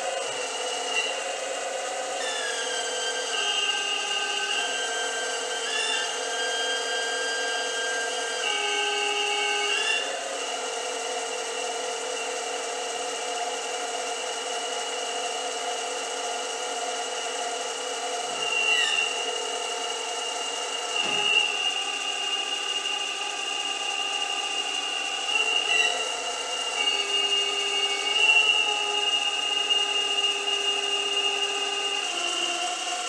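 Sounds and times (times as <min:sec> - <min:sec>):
hydraulic pump whining: 0:00.0 - 0:33.0.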